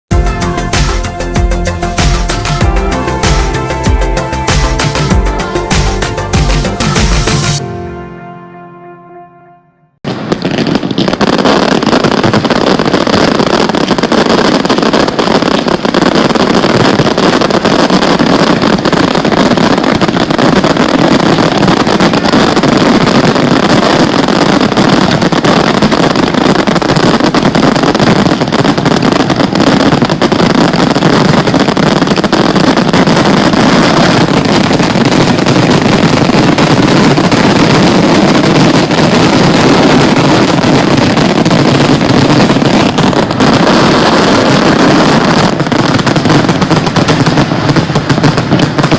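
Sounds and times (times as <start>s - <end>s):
fireworks bursting and crackling: 0.1s - 8.5s, 10.0s - 48.9s.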